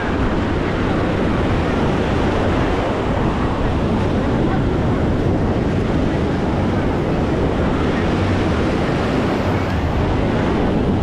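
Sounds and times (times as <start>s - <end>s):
faint voices: 0.0s - 11.0s
surf on a beach: 0.0s - 11.0s
wind on microphone: 0.0s - 11.0s.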